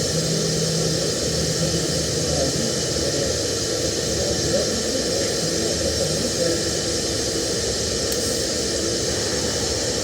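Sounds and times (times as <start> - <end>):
welding arc hissing: 0.0 - 10.0.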